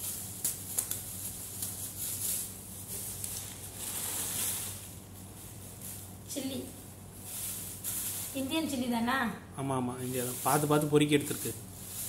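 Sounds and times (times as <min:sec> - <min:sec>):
plastic bags rustling: 0:00.0 - 0:09.2, 0:09.8 - 0:12.0.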